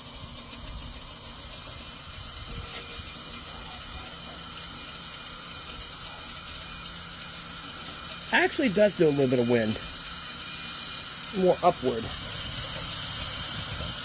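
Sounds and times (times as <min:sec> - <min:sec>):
fan motor whirring: 0:00.0 - 0:14.0.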